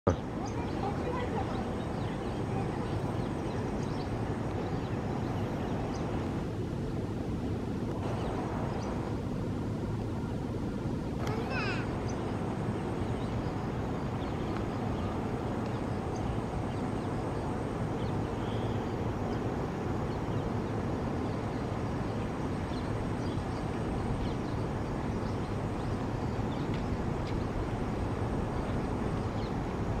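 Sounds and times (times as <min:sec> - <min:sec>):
distant birds chirping: 0:00.1 - 0:30.0
low outdoor rumble: 0:00.1 - 0:30.0.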